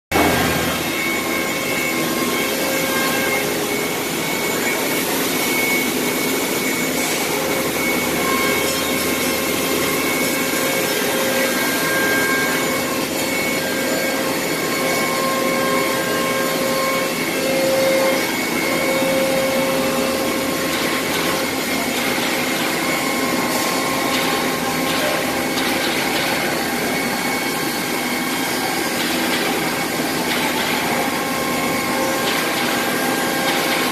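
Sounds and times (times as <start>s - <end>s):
vacuum pump running: 0.1s - 33.9s.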